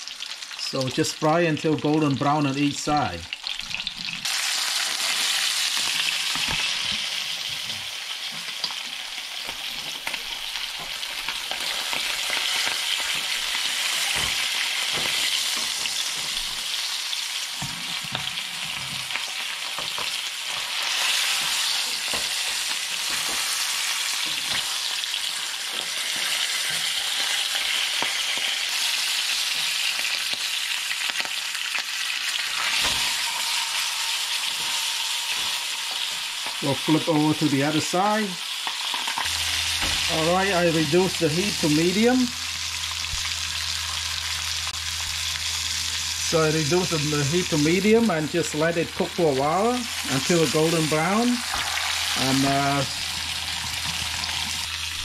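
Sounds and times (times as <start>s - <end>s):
fish sizzling in oil: 0.0s - 55.0s.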